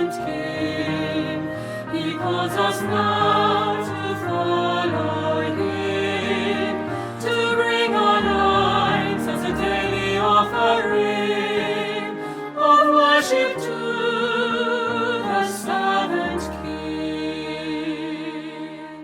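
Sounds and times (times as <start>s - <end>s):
choir singing a hymn: 0.0s - 19.0s
instrumental accompaniment: 0.0s - 19.0s.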